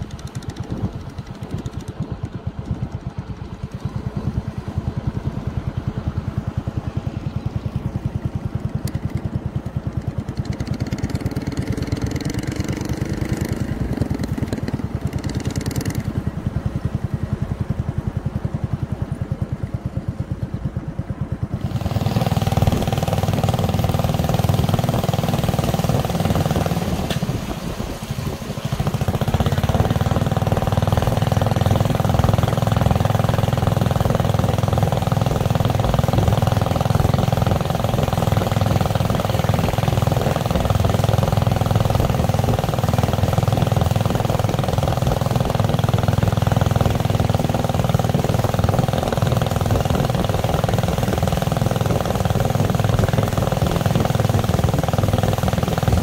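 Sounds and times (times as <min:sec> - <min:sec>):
boat engine idling and revving: 0:00.0 - 0:56.0.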